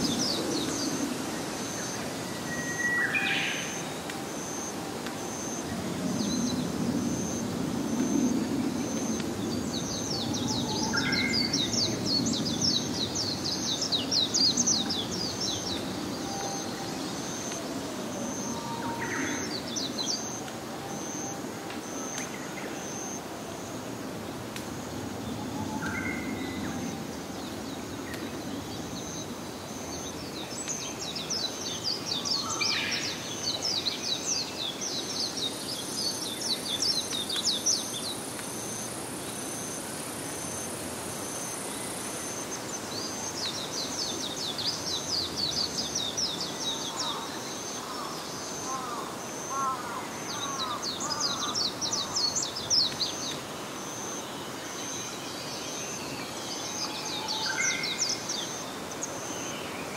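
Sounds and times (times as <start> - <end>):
birds and insects calling: 0.0 - 59.9.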